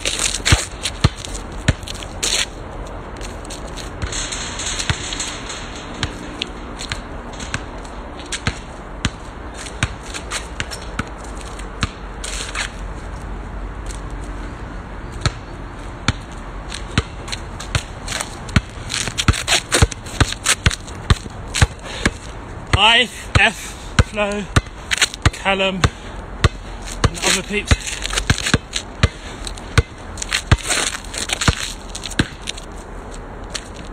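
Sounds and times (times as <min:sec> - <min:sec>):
trainers scuffing on asphalt: 0:00.0 - 0:05.0, 0:06.0 - 0:33.9
basketball bouncing on asphalt: 0:00.0 - 0:14.3, 0:15.0 - 0:33.9.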